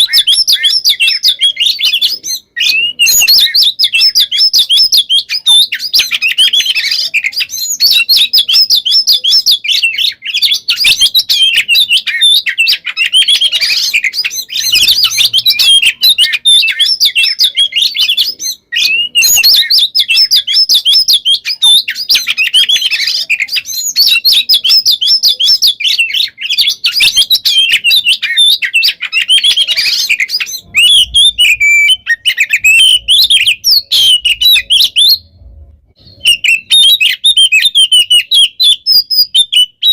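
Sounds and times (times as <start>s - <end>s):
songbird chattering and trilling: 0.0s - 39.9s.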